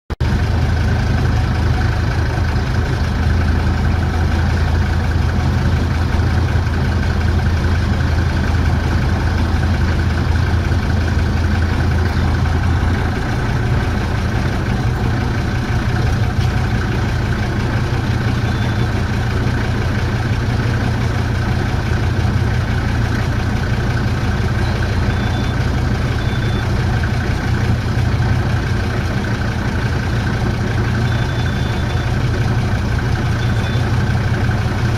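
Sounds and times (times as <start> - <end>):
motorboat engine drone: 0.2 - 34.9.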